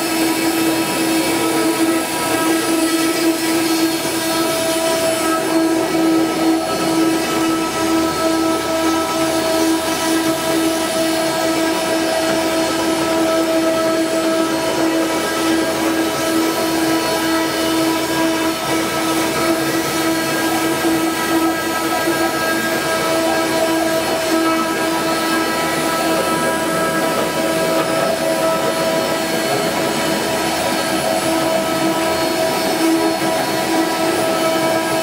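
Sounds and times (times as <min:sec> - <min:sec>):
constant machine noise: 0:00.0 - 0:35.0
router spindle whine: 0:00.0 - 0:35.0.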